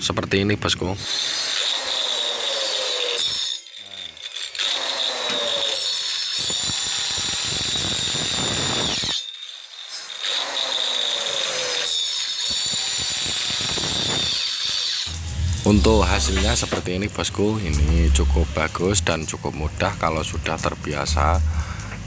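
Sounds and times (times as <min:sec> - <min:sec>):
power cutter motor whining: 0:01.0 - 0:19.1.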